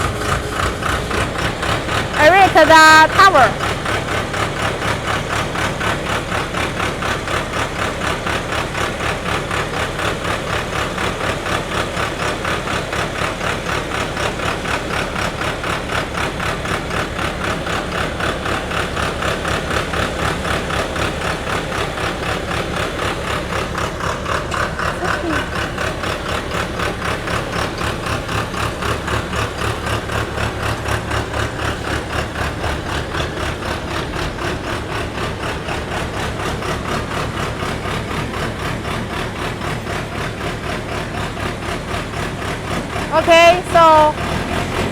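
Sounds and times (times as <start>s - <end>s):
drill rig engine pulsing: 0.0s - 44.5s.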